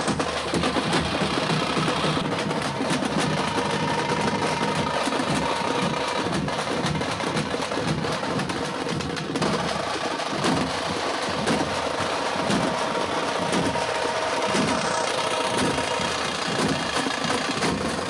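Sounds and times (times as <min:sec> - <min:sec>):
frame drums beaten with sticks: 0:00.0 - 0:18.0.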